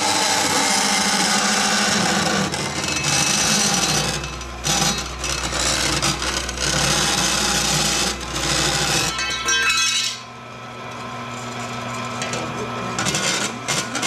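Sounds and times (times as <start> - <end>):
bandsaw cutting metal: 0.0 - 10.3, 12.2 - 14.0.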